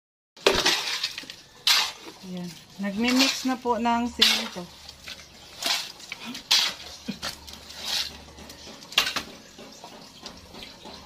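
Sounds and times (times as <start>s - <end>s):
shovel scraping wet concrete: 0.4s - 9.3s.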